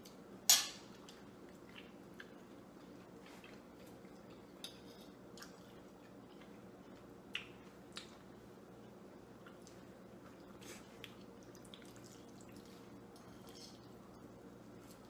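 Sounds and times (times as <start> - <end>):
low room hum: 0.0 - 15.0
quiet chewing: 1.0 - 15.0.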